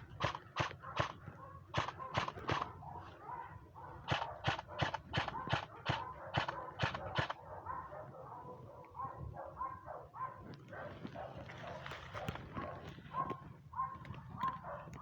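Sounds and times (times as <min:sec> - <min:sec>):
dog barking: 0:00.7 - 0:15.0.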